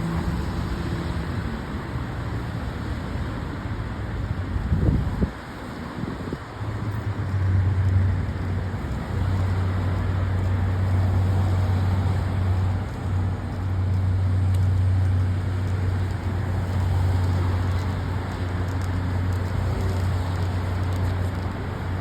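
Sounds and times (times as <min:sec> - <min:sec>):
road traffic noise: 0:00.0 - 0:22.0
vehicle engine drone: 0:00.0 - 0:22.0.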